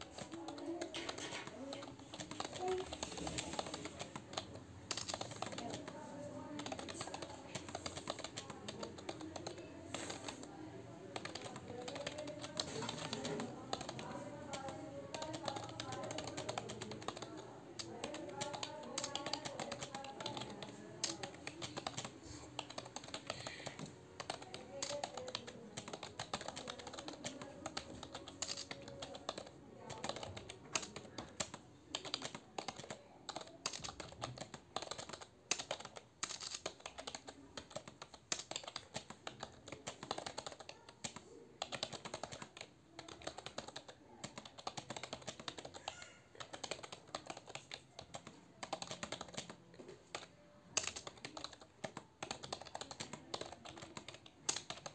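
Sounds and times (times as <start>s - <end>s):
typing on computer keyboard: 0.0s - 54.9s.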